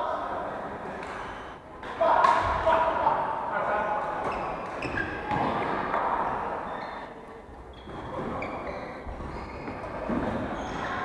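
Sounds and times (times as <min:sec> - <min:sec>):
steady hall background: 0:00.0 - 0:11.0.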